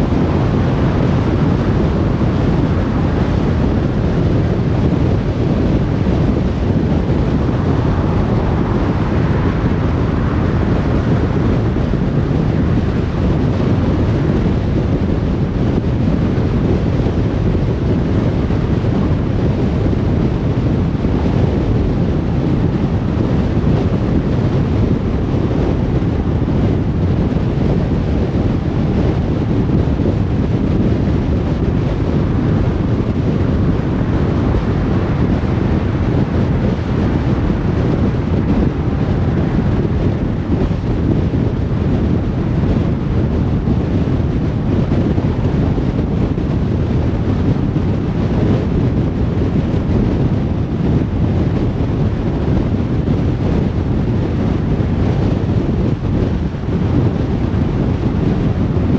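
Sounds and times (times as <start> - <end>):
tyre and wind noise: 0.0 - 58.9.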